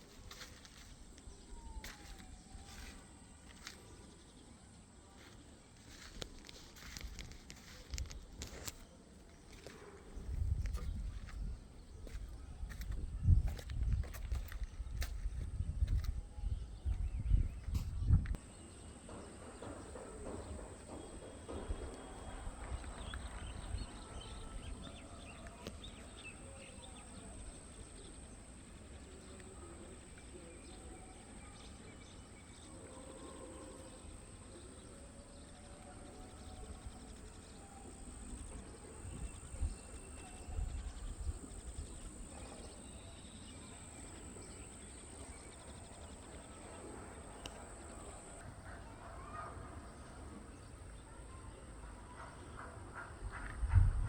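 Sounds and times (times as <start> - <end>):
faint indistinct sounds: 0.0 - 53.5.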